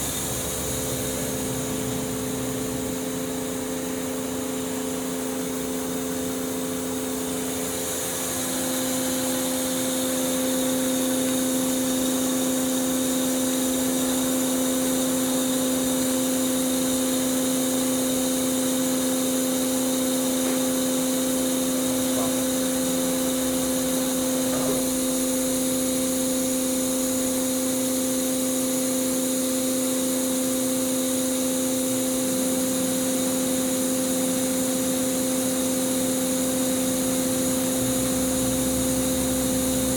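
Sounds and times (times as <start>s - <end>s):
machining center hum and whine: 0.0s - 39.9s.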